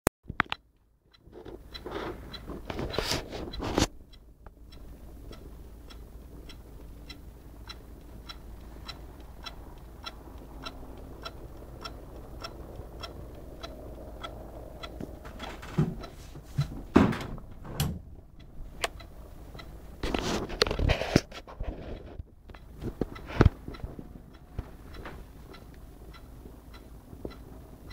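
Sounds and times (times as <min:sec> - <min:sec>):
low hum: 0:01.3 - 0:27.9.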